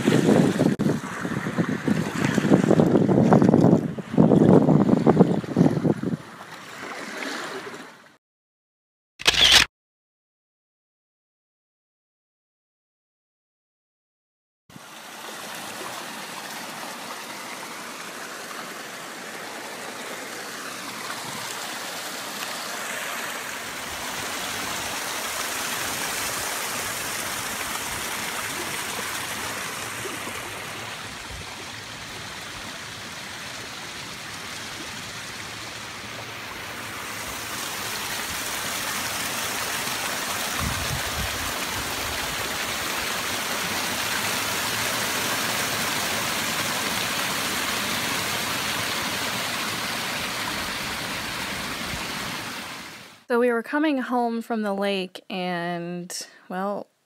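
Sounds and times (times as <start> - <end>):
creek running over stones: 0.0 - 7.8, 14.7 - 53.2.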